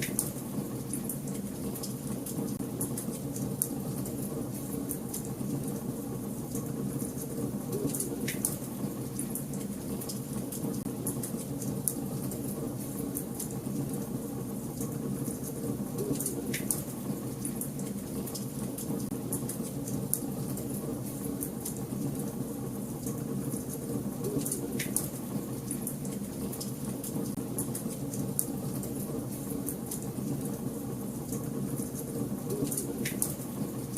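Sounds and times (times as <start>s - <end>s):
fireplace fire crackling: 0.0s - 33.9s.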